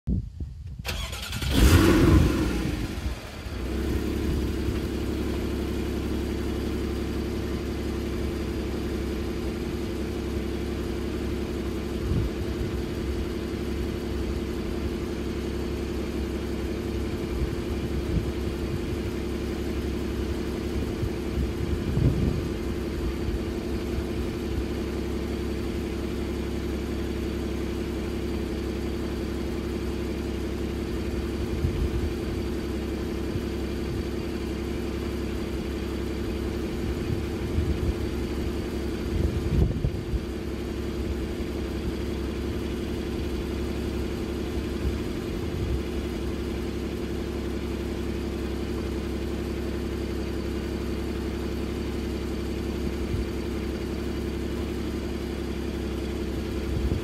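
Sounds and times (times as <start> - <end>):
car engine starting and idling: 0.6 - 57.0.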